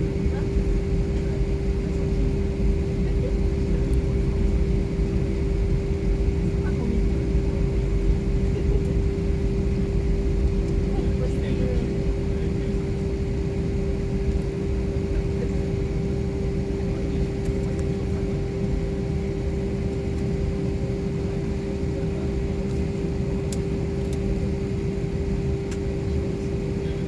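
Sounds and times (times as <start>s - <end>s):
airliner cabin drone: 0.0s - 27.0s.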